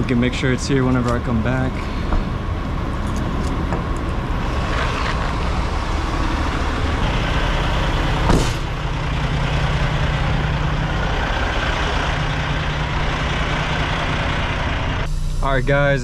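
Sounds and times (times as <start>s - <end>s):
truck engines idling: 0.0s - 16.0s.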